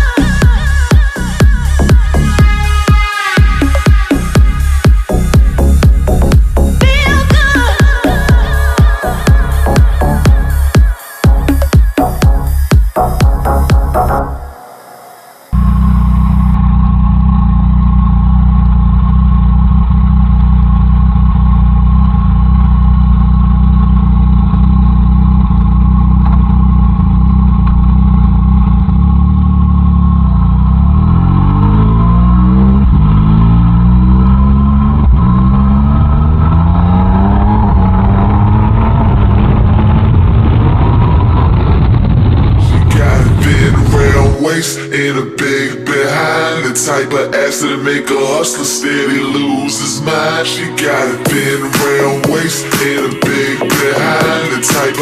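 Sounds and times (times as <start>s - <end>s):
motorcycle engine accelerating: 0.0s - 14.6s, 15.5s - 45.0s, 48.8s - 55.0s.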